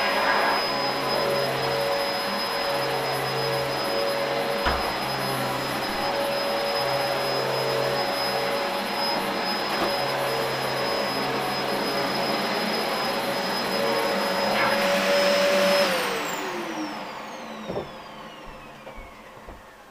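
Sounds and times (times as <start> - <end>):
motor whining down: 0.0 - 19.8
vacuum cleaner running: 0.0 - 19.9.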